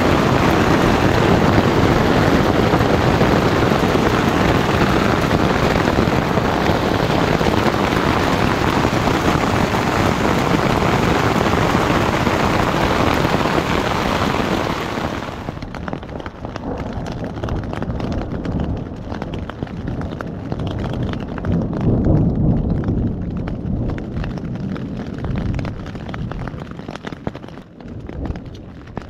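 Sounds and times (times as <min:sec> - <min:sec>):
hail and rain on a tent: 0:00.0 - 0:29.0.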